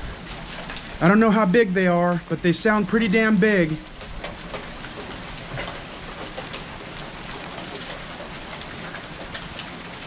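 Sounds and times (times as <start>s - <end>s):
heavy rain: 0.0s - 10.0s
hailstones knocking on concrete: 0.2s - 10.0s.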